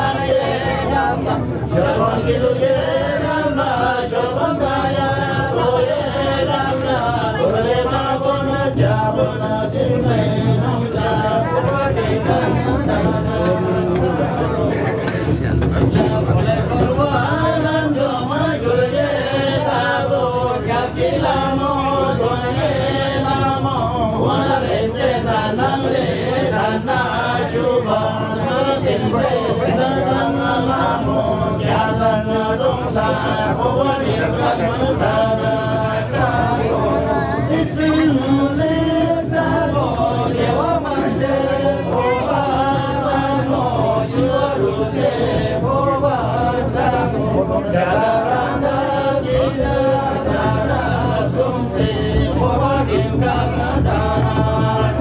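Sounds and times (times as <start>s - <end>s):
men chanting together: 0.0s - 55.0s.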